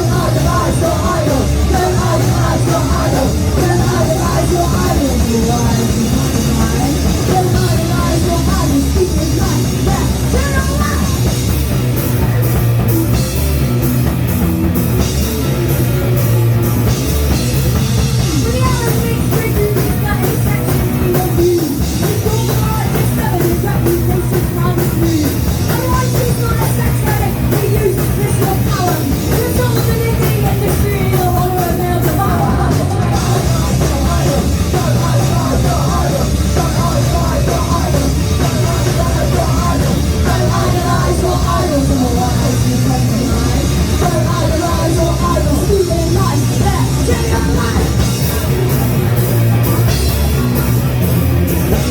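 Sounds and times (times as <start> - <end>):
punk rock band playing: 0.0 - 51.9.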